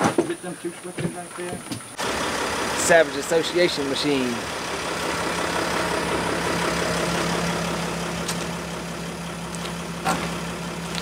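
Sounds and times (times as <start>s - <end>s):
van engine idling: 0.3s - 11.0s.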